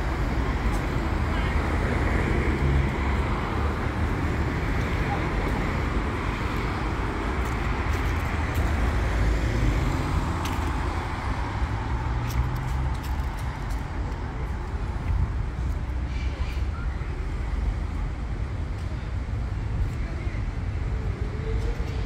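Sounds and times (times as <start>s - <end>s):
cars driving past: 0.0s - 18.4s.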